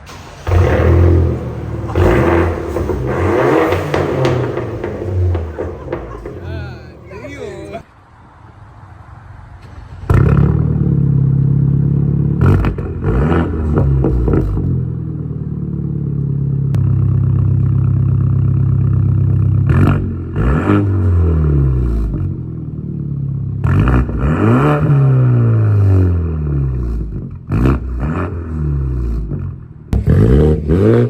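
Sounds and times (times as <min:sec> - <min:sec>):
car engine revving and idling: 0:00.0 - 0:07.8, 0:09.9 - 0:31.0.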